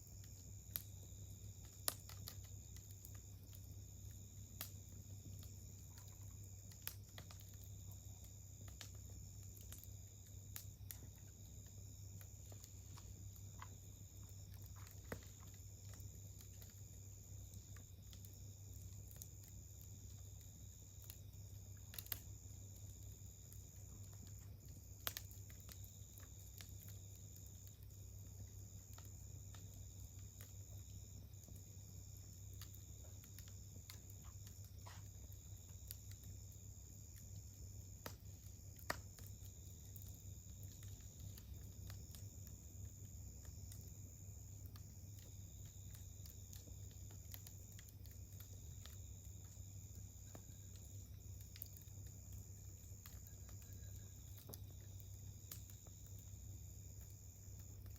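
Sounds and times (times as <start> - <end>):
campfire crackling and popping: 0.0 - 57.9
insect chirring: 0.0 - 57.9.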